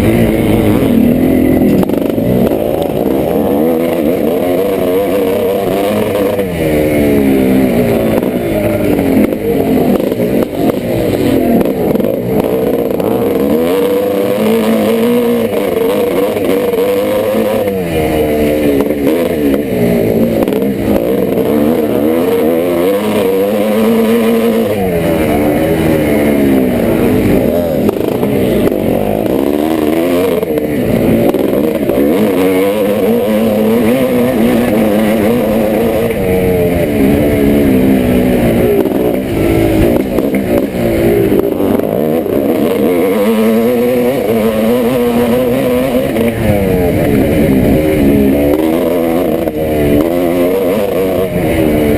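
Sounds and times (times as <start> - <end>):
two-stroke motorcycle engine revving: 0.0 - 51.9.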